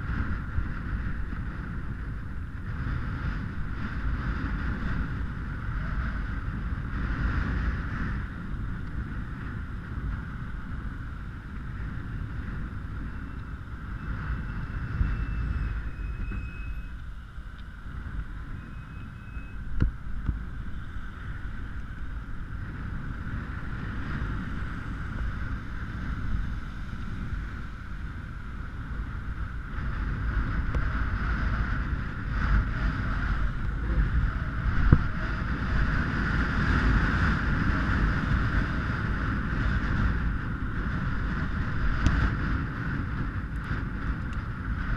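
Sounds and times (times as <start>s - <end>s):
low tyre rumble: 0.0s - 44.9s
wind buffeting microphone: 0.0s - 44.9s.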